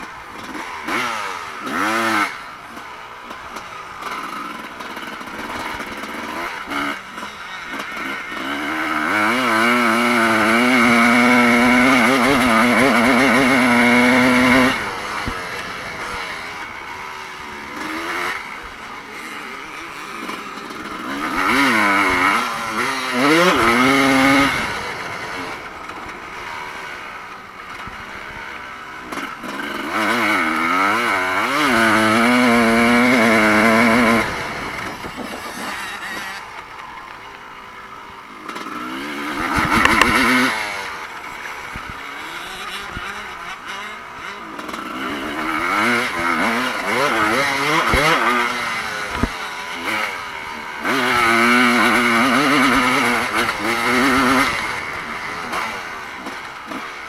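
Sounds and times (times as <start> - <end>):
motocross bikes revving: 0.0 - 57.0.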